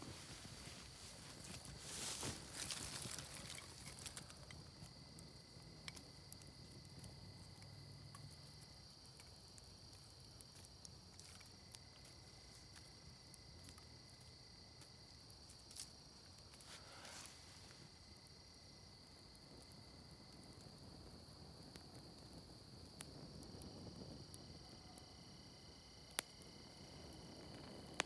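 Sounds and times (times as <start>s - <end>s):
twig fire crackling: 0.0s - 28.0s
insects chirring: 0.1s - 28.0s.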